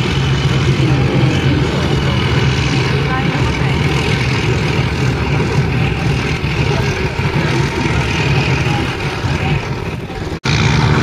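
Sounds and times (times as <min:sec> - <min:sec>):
low open-air rumble: 0:00.0 - 0:11.0
motorboat engines droning: 0:00.0 - 0:11.0.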